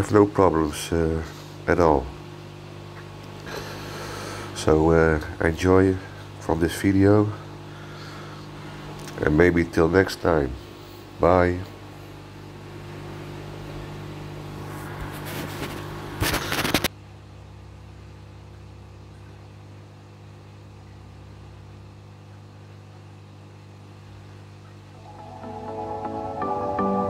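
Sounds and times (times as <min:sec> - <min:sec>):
low electrical hum of pump: 0:00.0 - 0:27.0.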